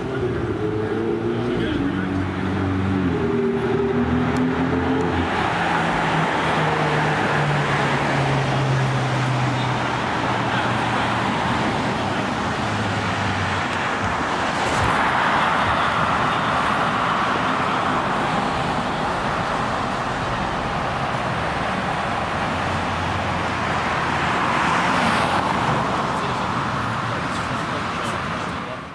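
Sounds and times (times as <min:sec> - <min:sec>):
car passing by: 0:00.0 - 0:28.8
road noise from passing cars: 0:00.0 - 0:28.9.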